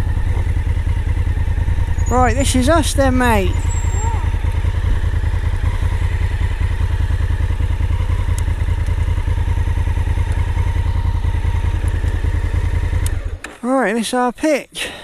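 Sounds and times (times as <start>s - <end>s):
motorcycle engine chugging: 0.0s - 14.1s.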